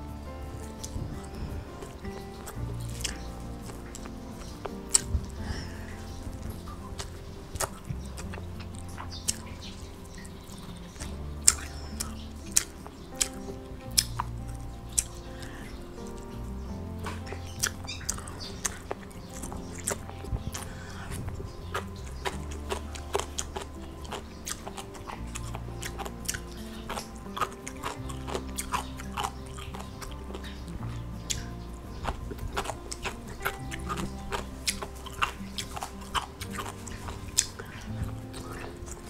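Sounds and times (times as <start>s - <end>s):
background music: 0.0s - 39.0s
close chewing: 0.0s - 39.0s
wet mouth clicks: 2.2s - 16.3s, 17.0s - 30.6s, 31.3s - 39.0s.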